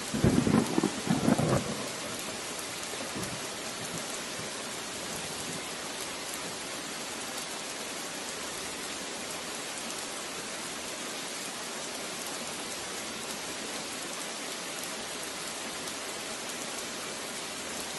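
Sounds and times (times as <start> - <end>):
rain falling: 0.0 - 17.9.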